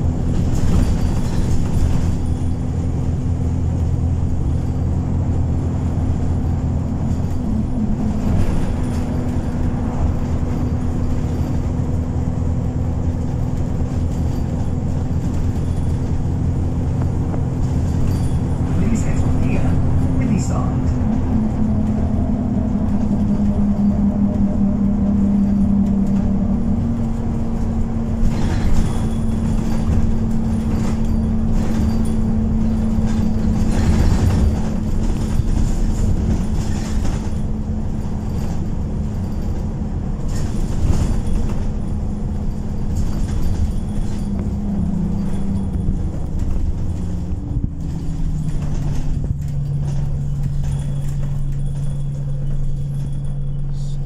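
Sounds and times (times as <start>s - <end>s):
body knocks and rattles: 0.0s - 20.2s, 25.0s - 54.0s
bus drivetrain drone: 0.0s - 54.0s
road rumble: 0.0s - 54.0s.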